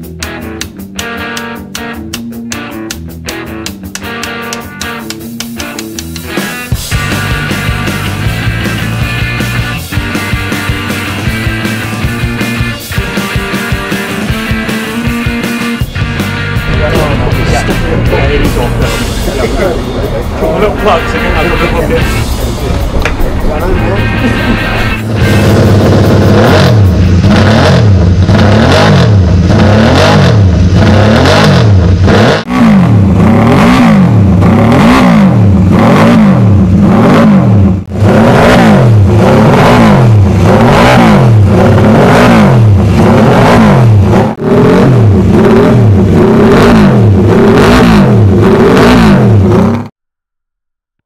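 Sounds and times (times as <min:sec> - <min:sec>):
motorcycle engine revving: 0:03.9 - 0:50.0.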